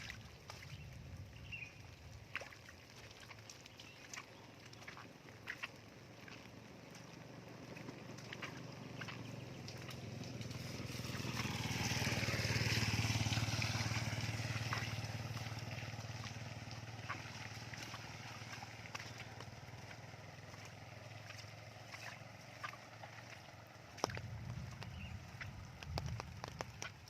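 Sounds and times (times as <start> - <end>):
steady rainfall: 3.4 - 27.0
vehicle passing by: 4.1 - 26.9.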